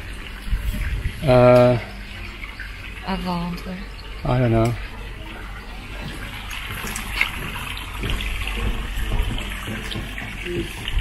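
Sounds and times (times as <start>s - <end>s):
water sloshing and lapping: 0.0s - 11.0s.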